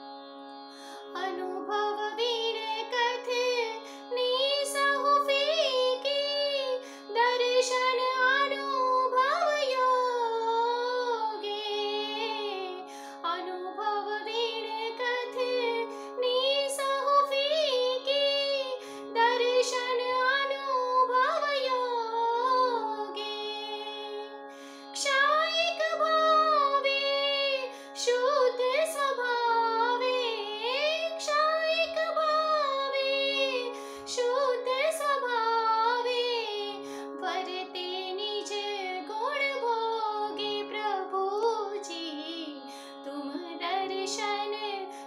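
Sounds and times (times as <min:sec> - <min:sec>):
woman singing a hymn: 0:01.2 - 0:24.3, 0:25.0 - 0:44.9.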